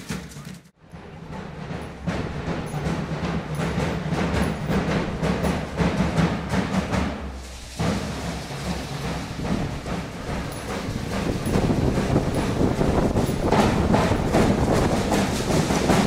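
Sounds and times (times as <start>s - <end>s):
rapid drumming: 0.0s - 16.0s.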